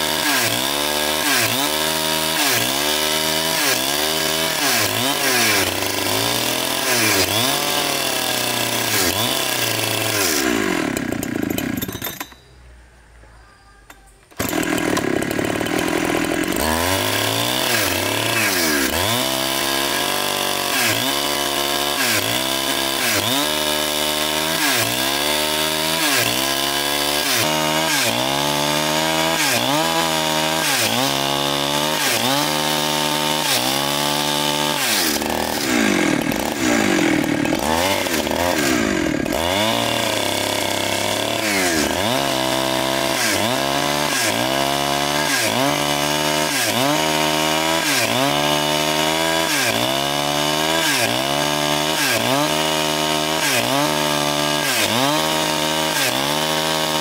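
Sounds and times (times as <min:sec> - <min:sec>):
chainsaw cutting log: 0:00.0 - 0:12.4, 0:13.9 - 0:57.0.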